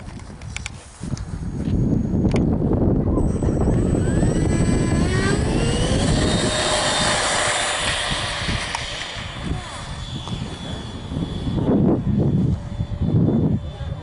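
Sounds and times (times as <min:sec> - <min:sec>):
model jet engine whine: 0:00.0 - 0:14.0.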